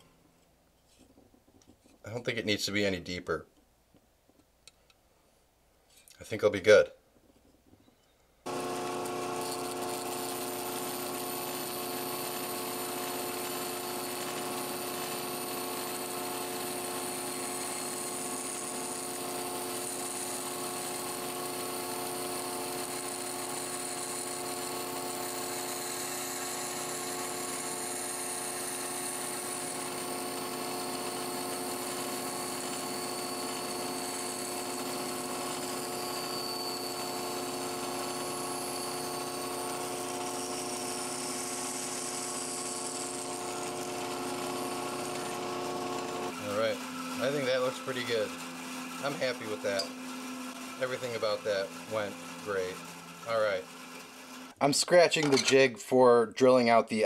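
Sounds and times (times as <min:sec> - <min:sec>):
bandsaw cutting wood: 0:08.5 - 0:55.5.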